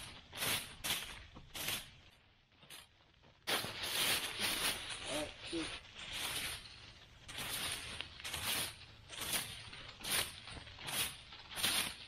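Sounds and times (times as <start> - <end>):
dry leaves rustling and crunching: 0.0 - 12.0.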